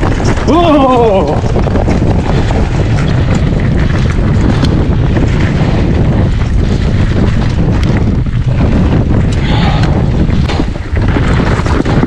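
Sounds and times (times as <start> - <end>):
bike clicks and rattles: 0.0 - 12.0
tyre and trail rumble: 0.0 - 12.0
wind buffeting microphone: 0.0 - 12.0.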